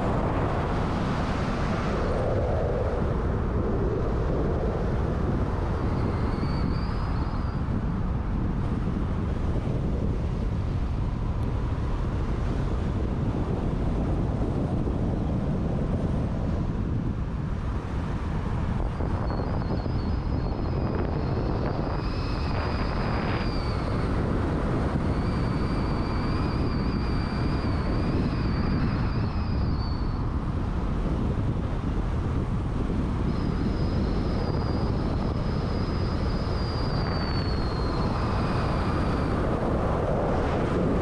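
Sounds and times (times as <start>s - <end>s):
car driving road and engine rumble: 0.0s - 41.0s
thin high wavering whine: 0.0s - 41.0s.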